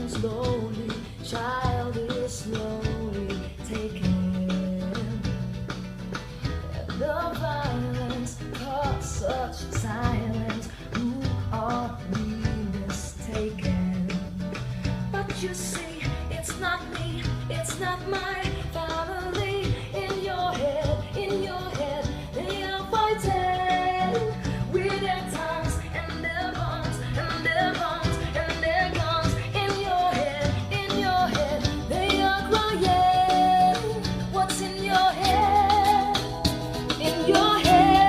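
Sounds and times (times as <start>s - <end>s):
song over loudspeakers: 0.0s - 5.6s, 6.4s - 38.0s.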